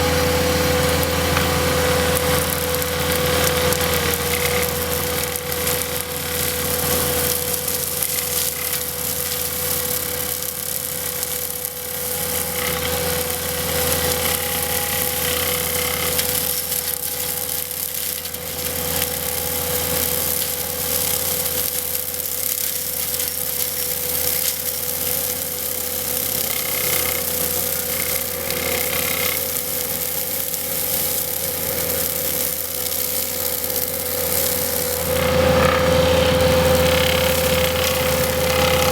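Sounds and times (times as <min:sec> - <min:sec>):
hydraulic machine rattling: 0:00.0 - 0:38.9.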